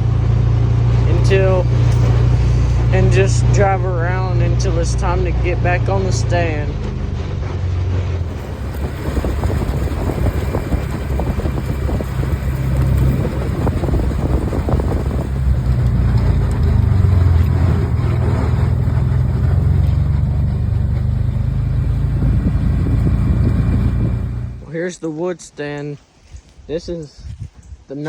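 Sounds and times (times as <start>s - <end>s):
off-road vehicle engine running: 0.0s - 25.0s
rattles and knocks: 0.7s - 24.6s.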